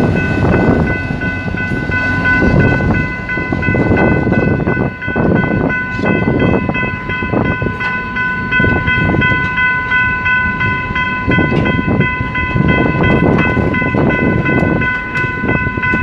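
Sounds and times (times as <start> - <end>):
level crossing alarm ringing: 0.0 - 16.0
train wheels rumbling and knocking: 0.0 - 16.0.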